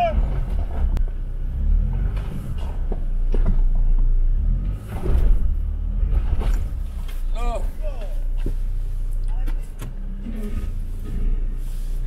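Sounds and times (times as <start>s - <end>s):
off-road vehicle engine rumble: 0.0s - 12.0s.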